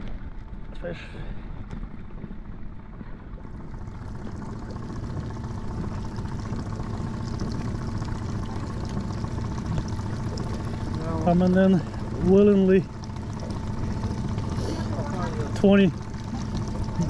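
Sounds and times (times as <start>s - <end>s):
outboard motor running: 0.0s - 17.0s
water washing along hull: 0.0s - 17.0s.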